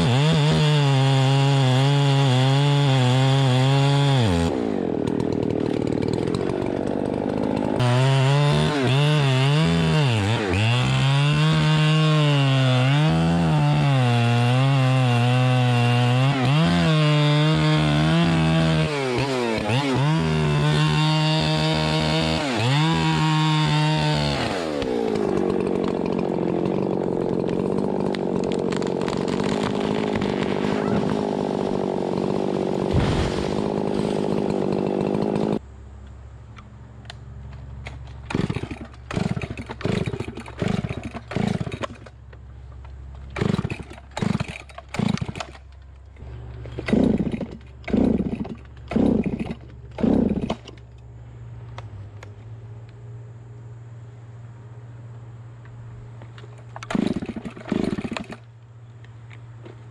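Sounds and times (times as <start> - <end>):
chainsaw revving: 0.0 - 35.6, 38.3 - 42.2, 43.3 - 45.6, 46.2 - 50.9, 56.7 - 58.5.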